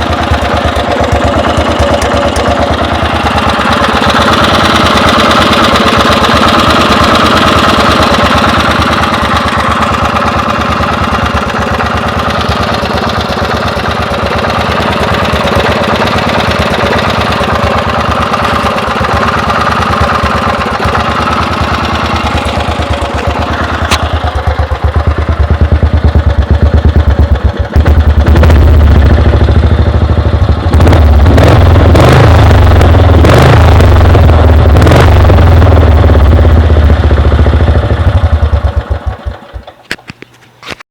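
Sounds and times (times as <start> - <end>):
lawn mower engine running: 0.0 - 40.8.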